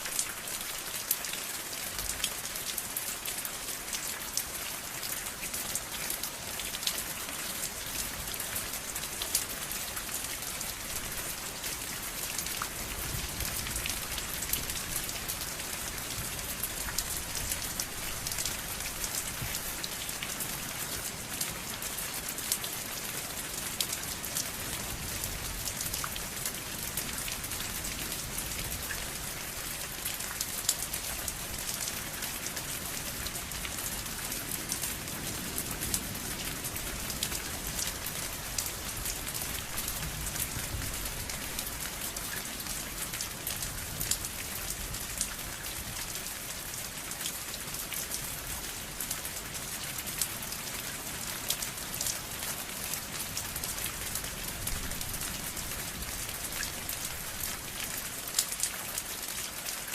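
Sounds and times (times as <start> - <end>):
rain hiss: 0.0 - 59.9
raindrops ticking on surface: 0.0 - 59.9.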